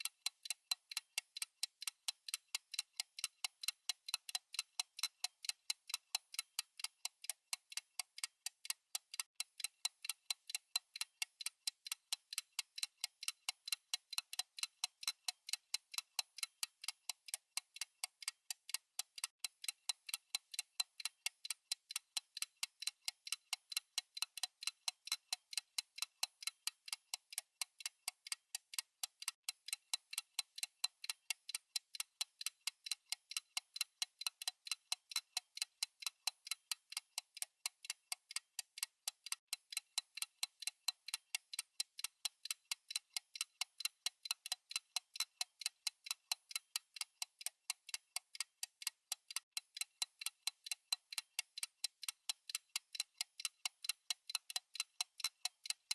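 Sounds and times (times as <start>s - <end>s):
fast clock-style ticking: 0.0s - 55.9s.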